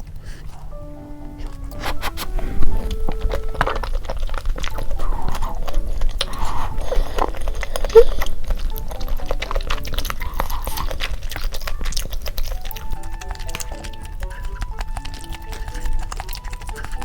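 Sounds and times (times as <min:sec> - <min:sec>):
light background music: 0:00.0 - 0:17.0
wet chewing: 0:00.0 - 0:17.0.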